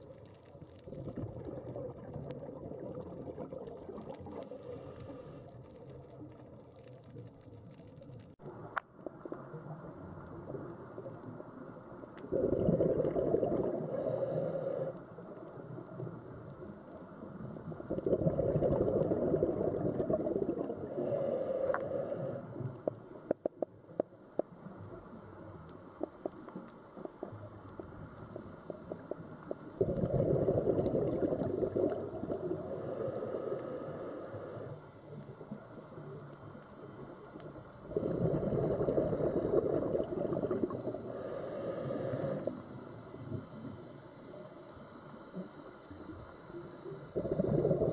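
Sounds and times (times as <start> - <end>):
underwater exhaled bubbles: 0.0 - 47.9.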